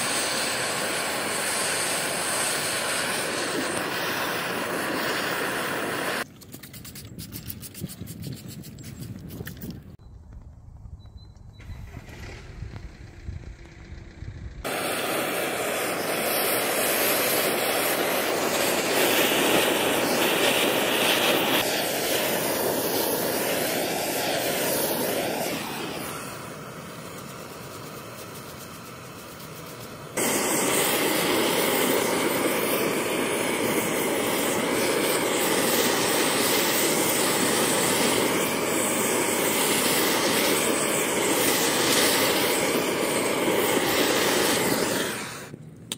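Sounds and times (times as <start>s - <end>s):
blowtorch hissing: 0.0s - 6.3s, 14.6s - 45.6s.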